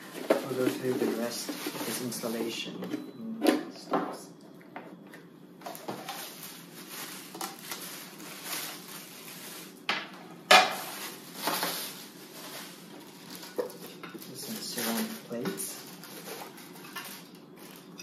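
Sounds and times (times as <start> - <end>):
plastic bag crinkling: 0.0 - 2.6, 5.6 - 18.0.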